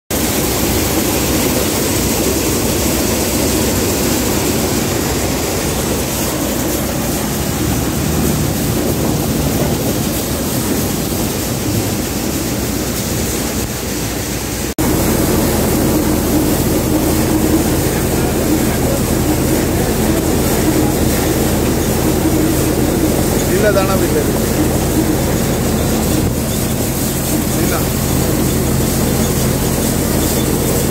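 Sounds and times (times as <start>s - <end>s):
thresher mechanical drone: 0.2s - 30.9s.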